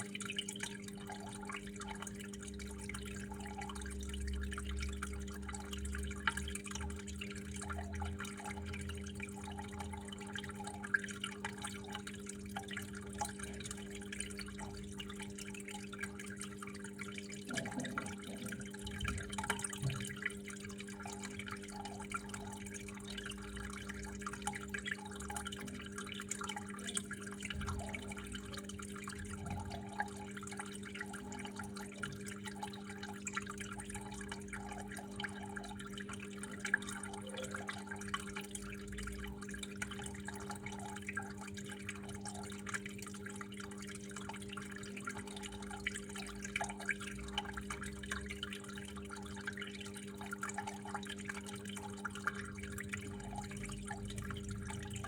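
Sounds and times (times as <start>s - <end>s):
water flowing and dripping: 0.0s - 55.0s.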